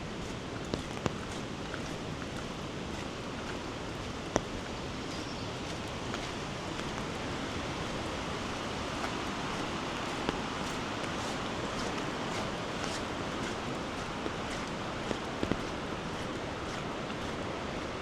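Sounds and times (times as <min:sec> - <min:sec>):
floodwater running: 0:00.0 - 0:18.0
rain falling: 0:00.0 - 0:18.0.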